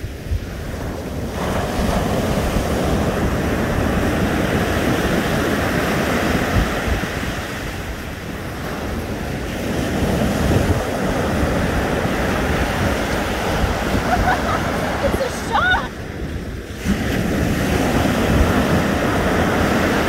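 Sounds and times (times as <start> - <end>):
ocean surf breaking on beach: 0.0 - 20.0
wind rumbling on microphone: 0.0 - 20.0.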